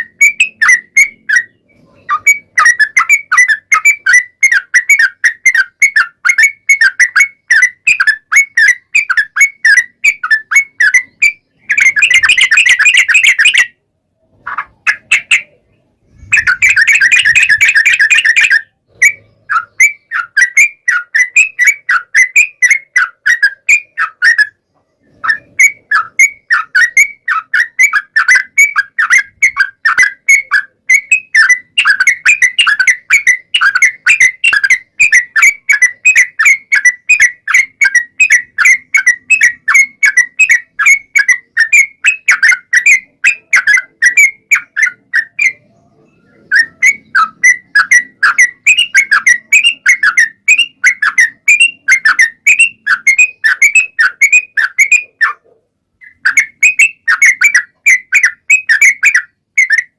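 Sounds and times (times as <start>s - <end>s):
bird chirping whistled notes: 0.0s - 59.9s.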